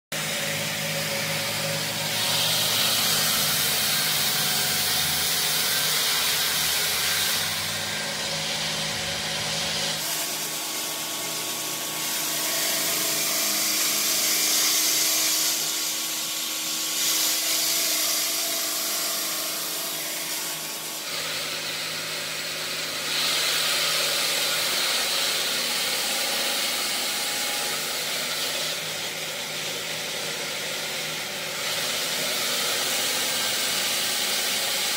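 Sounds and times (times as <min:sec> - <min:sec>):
stone cutter grinding hiss: 0:00.1 - 0:34.9.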